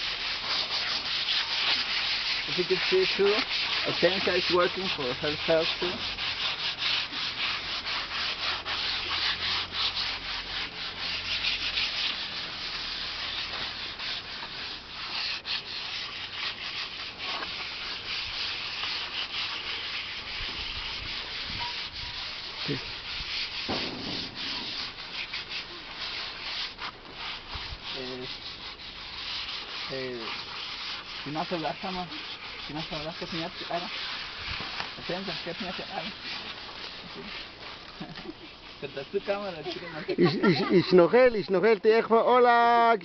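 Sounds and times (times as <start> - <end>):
sandpaper scratching on wood: 0.0 - 42.8.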